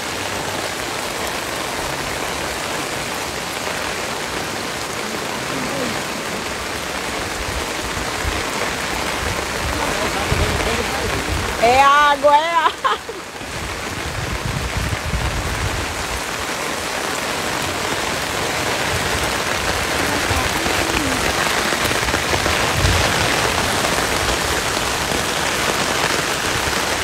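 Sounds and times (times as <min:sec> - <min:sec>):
heavy rain on street: 0:00.0 - 0:27.0.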